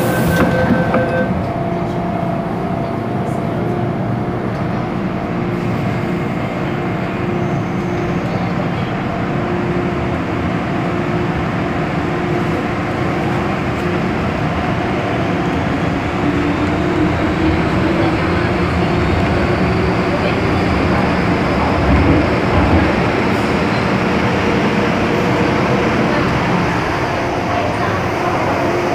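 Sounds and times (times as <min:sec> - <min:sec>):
train motor hum: 0:00.0 - 0:28.9
train wheels rumbling on track: 0:00.0 - 0:28.9.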